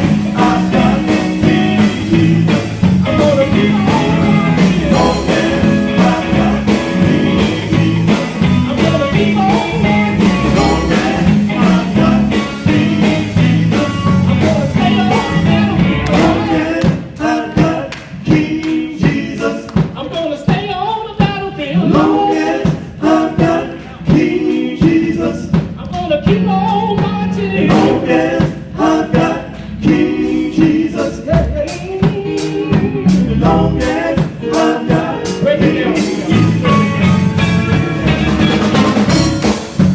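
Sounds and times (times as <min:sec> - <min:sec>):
gospel vocal group singing: 0:00.0 - 0:39.9
live band playing: 0:00.0 - 0:39.9.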